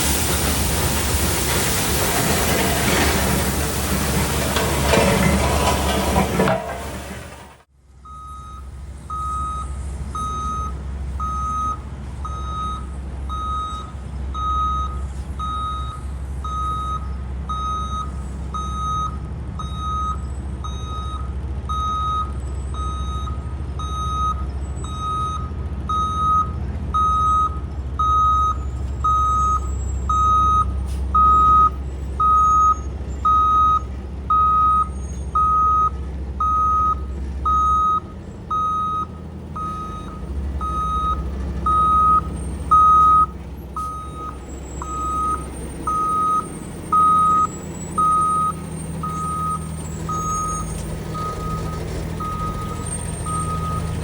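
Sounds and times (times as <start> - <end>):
diesel engine rumble: 0.0 - 54.0
reversing alarm beeps: 8.1 - 54.0.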